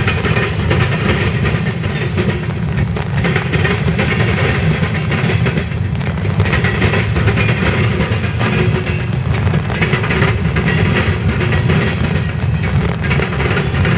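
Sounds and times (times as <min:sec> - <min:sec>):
freight cars rumbling on rail: 0:00.0 - 0:13.9
wheels clicking over rail joints: 0:00.0 - 0:13.9.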